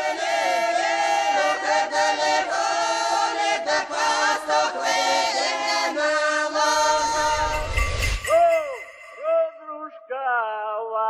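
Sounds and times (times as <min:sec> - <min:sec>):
choir singing without instruments: 0:00.0 - 0:09.6.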